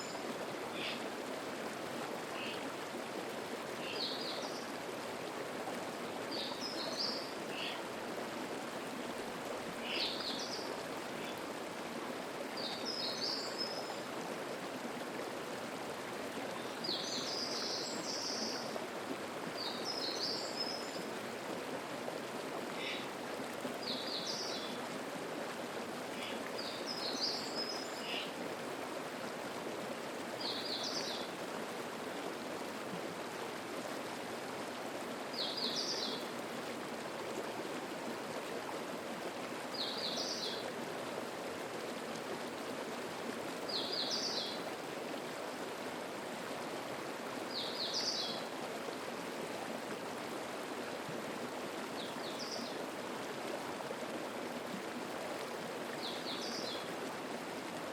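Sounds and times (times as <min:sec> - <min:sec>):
mountain stream babbling: 0:00.0 - 0:57.9.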